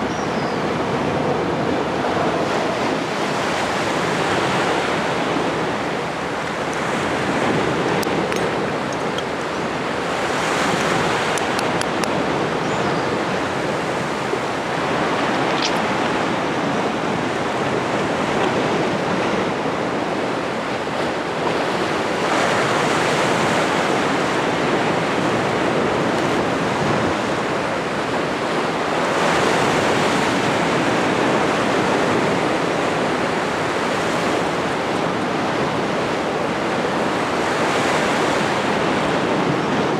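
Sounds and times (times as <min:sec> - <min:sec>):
sea surf washing onto shore: 0:00.0 - 0:39.9.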